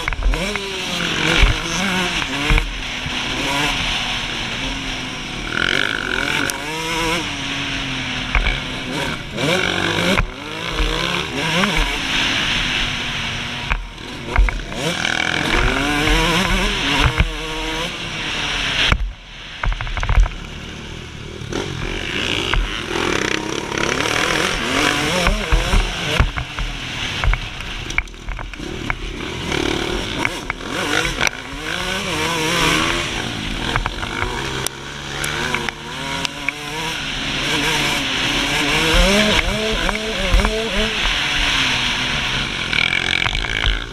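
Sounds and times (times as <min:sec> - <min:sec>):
two-stroke engine revving: 0:00.0 - 0:43.9.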